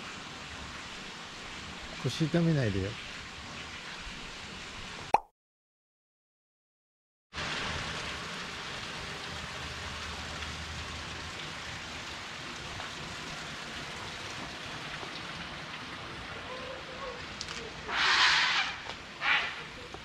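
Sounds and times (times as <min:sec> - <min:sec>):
outdoor street ambience hiss: 0:00.0 - 0:05.1, 0:07.4 - 0:20.0.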